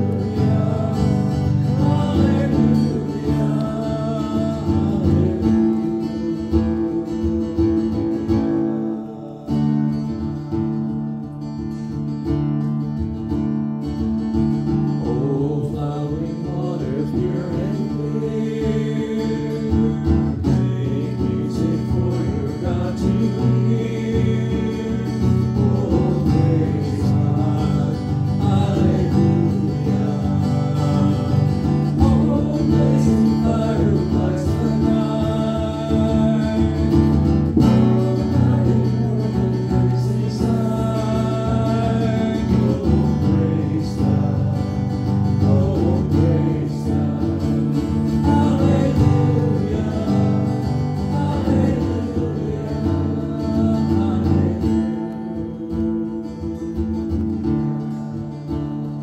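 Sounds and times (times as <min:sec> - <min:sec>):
voices singing a hymn: 0:00.0 - 0:10.5, 0:15.0 - 0:57.2
strummed acoustic guitar: 0:00.0 - 0:59.0.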